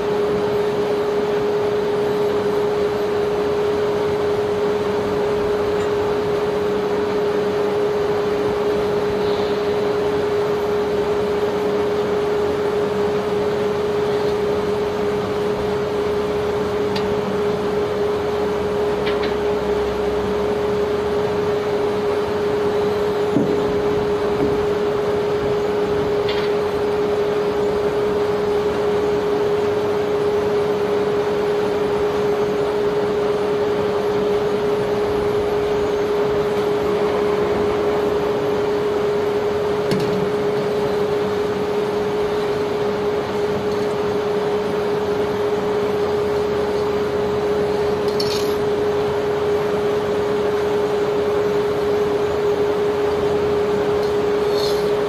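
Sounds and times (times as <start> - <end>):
constant droning tone: 0.0 - 55.0
machinery humming: 0.0 - 55.0.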